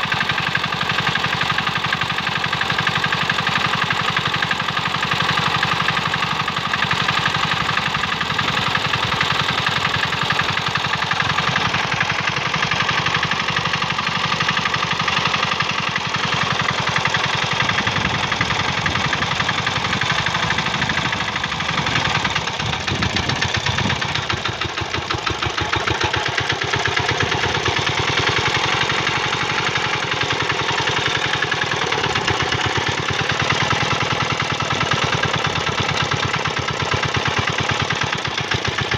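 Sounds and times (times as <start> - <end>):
small diesel engine clattering: 0.0 - 38.9.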